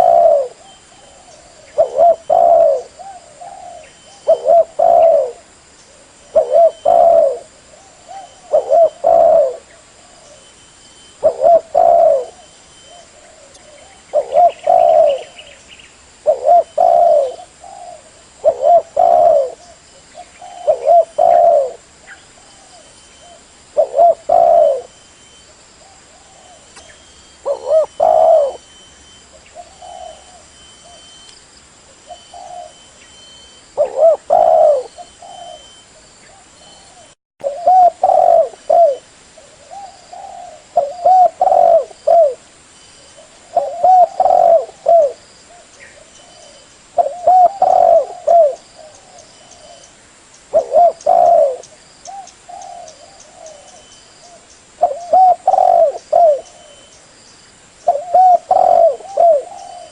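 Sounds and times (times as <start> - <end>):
dove cooing: 0.0 - 15.6, 16.2 - 31.3, 31.9 - 49.9, 50.5 - 57.0, 57.8 - 59.9.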